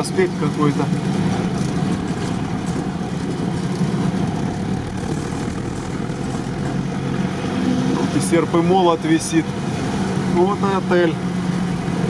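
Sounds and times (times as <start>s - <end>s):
off-road vehicle engine droning: 0.0s - 12.0s.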